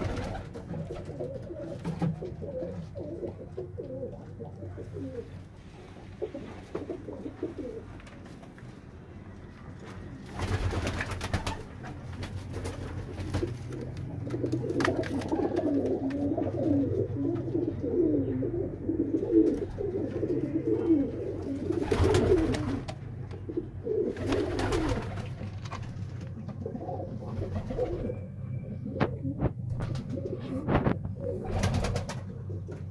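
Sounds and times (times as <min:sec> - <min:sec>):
pigeons cooing: 0:00.0 - 0:08.2, 0:10.5 - 0:32.9.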